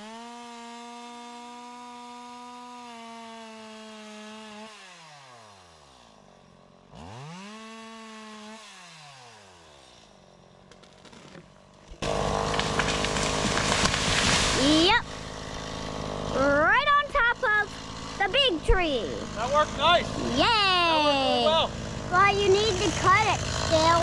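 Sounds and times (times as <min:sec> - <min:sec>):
chainsaw revving and idling: 0:00.0 - 0:24.0.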